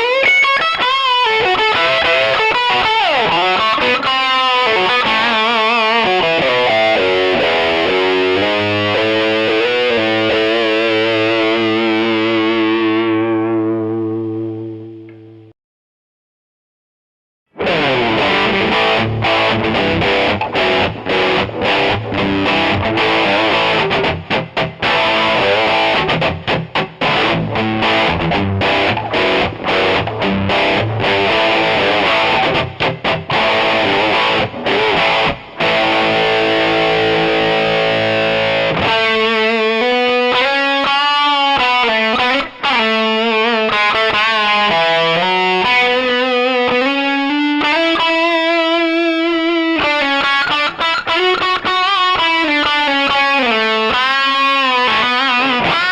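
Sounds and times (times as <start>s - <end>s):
distorted electric guitar: 0.0s - 15.5s, 17.5s - 55.9s.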